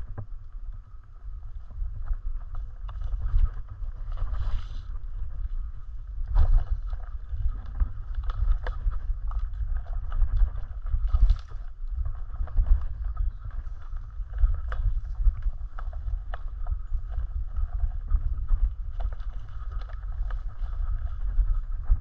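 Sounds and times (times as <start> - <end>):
wind rumble on microphone: 0.0 - 22.0
bike rattling over bumps: 1.6 - 22.0.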